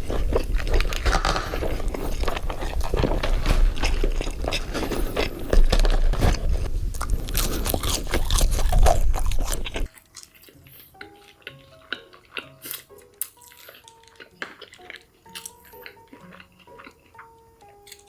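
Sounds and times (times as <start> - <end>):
burger being chewed crunchily: 0.0 - 18.0.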